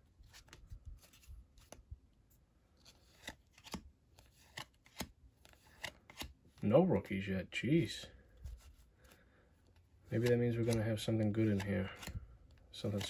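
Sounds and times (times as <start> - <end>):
cards flicking and rustling: 0.1 - 6.6, 8.3 - 13.0.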